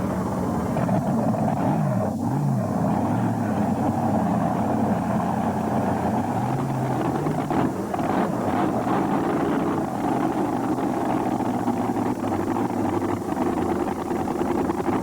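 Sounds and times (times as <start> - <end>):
tractor engine revving under load: 0.0 - 15.0.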